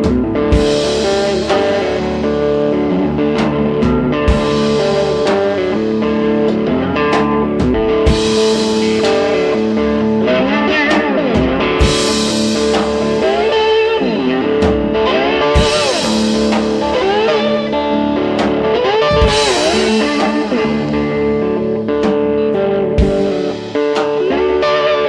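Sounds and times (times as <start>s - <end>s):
drum beat: 0.0s - 24.4s
electric guitar lead lines: 0.0s - 25.0s.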